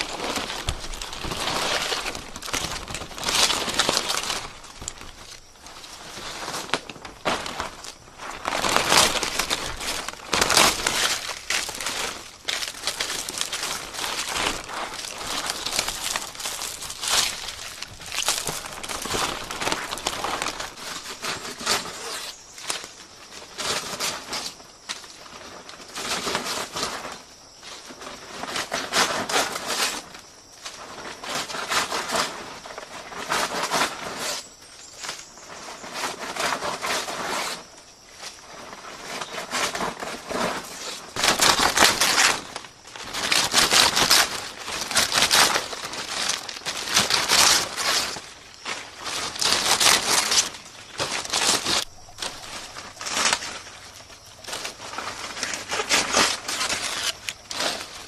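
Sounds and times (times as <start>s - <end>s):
leaves rustling and crackling: 0.0s - 58.0s.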